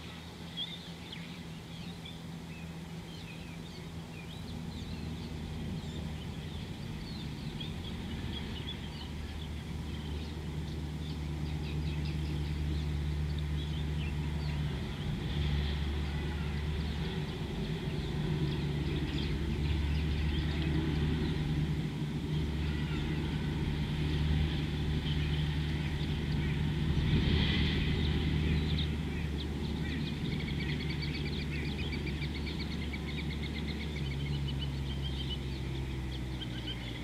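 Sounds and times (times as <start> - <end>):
birds chirping: 0.0 - 37.0
low mechanical hum: 0.0 - 37.0.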